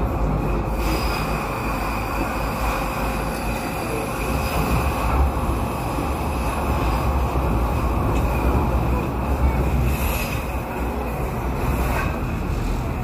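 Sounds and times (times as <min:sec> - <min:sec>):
high-pitched whine: 0:00.0 - 0:13.0
train wheels rumbling on rail: 0:00.0 - 0:13.0.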